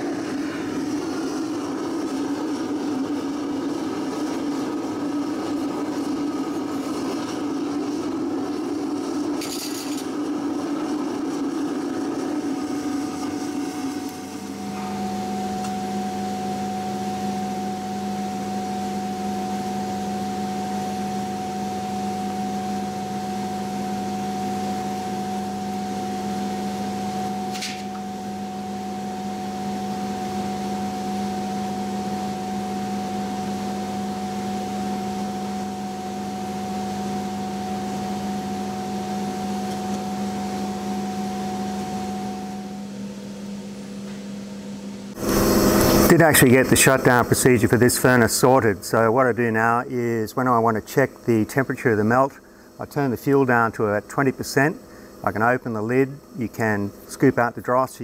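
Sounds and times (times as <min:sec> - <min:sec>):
blower motor humming: 0:00.0 - 0:58.0.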